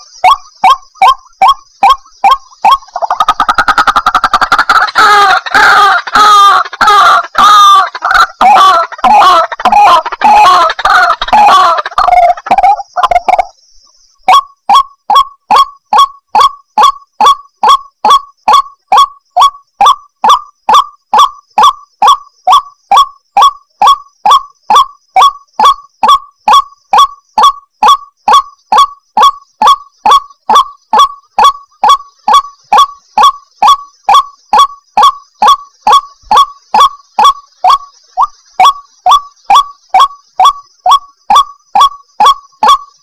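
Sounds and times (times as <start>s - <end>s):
waterhen calling: 0.0s - 43.0s.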